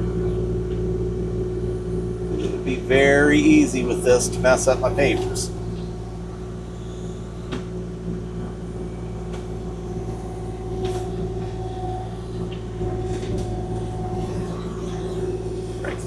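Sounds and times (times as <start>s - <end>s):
excavator diesel engine running: 0.0s - 16.0s
steady hum: 0.0s - 16.0s.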